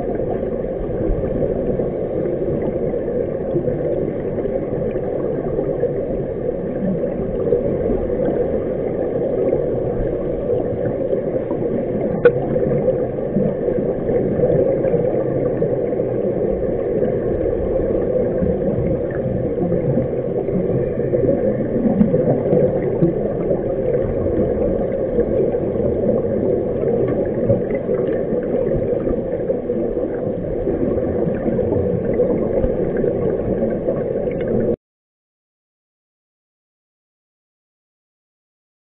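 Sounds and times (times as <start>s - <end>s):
muffled underwater rumble and gurgle: 0.0s - 34.8s.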